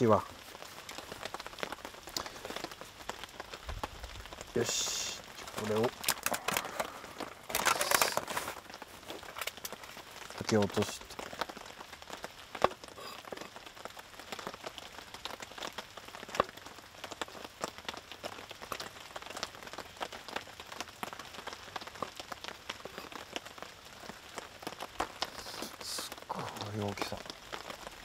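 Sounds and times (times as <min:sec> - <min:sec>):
rain pattering: 0:00.0 - 0:28.0.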